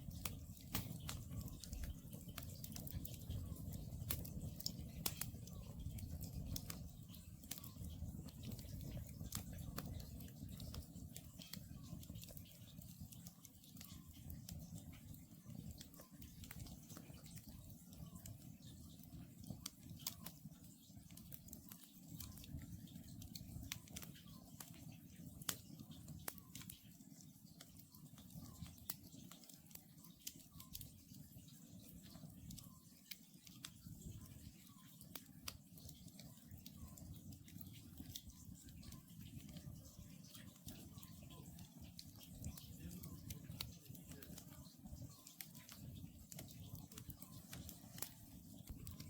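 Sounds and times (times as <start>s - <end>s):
low rumble of flames: 0.0s - 29.4s, 33.6s - 49.0s
campfire crackling and popping: 0.0s - 49.0s.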